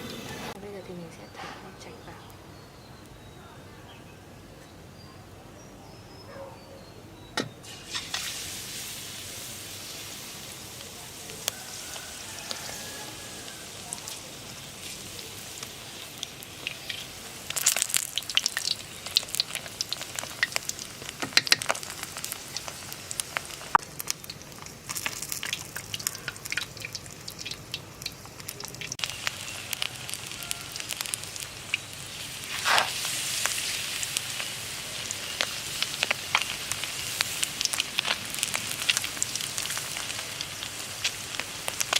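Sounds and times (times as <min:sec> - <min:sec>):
fish deep-frying in oil: 0:07.6 - 0:41.9.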